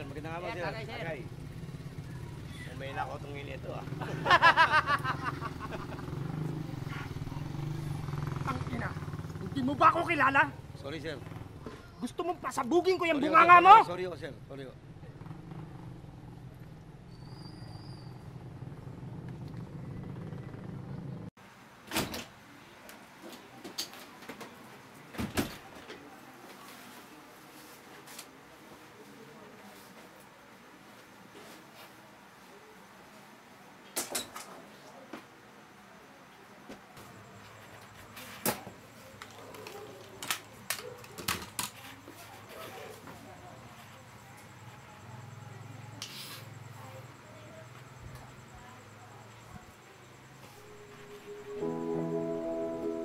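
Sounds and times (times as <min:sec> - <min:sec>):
low street hum: 0:00.0 - 0:53.0.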